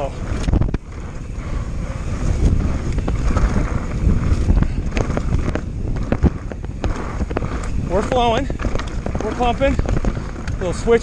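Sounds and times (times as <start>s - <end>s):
bike knocks and rattles: 0.0s - 11.0s
tyres rumbling on dirt: 0.0s - 11.0s
wind buffeting microphone: 0.0s - 11.0s.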